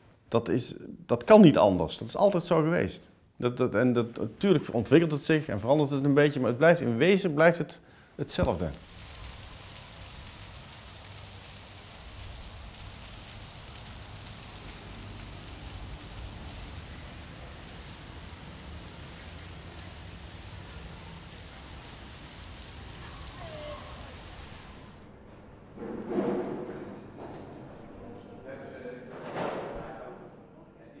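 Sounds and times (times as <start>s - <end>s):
outdoor background hiss: 0.0s - 25.9s.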